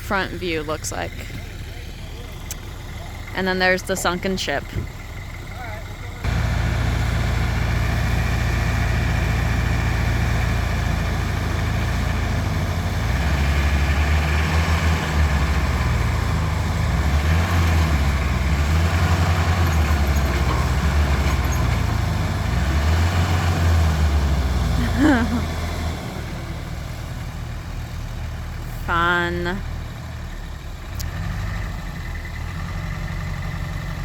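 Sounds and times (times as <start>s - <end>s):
large engine droning: 0.0s - 34.0s.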